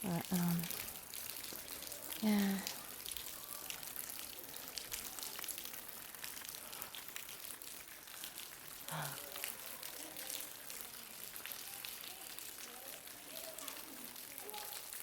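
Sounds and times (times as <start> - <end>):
waterfall splashing onto rock: 0.0 - 15.0.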